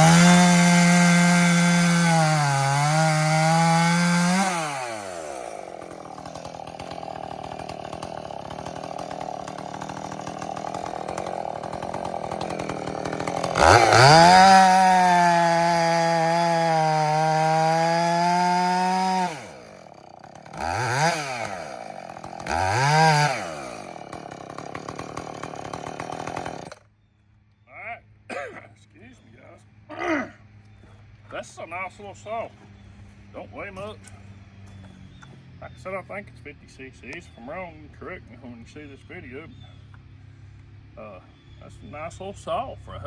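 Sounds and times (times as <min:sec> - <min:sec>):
chainsaw idling and revving: 0:00.0 - 0:26.9, 0:31.6 - 0:43.0.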